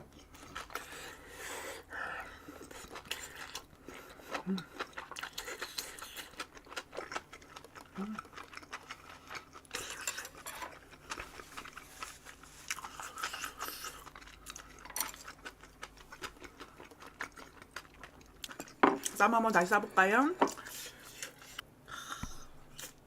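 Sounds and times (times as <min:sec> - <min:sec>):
chewing and crunching food: 0:00.0 - 0:19.2.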